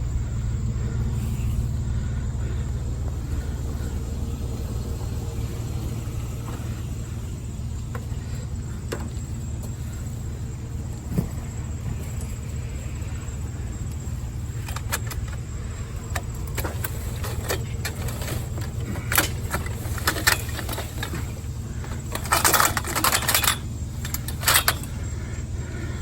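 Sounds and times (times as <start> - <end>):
motor vehicle engine rumbling: 0.0 - 26.0.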